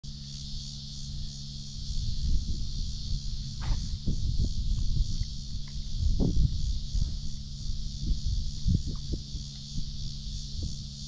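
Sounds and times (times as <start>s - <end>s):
high-pitched insect chorus: 0.0s - 11.0s
low rumbling: 0.7s - 11.0s.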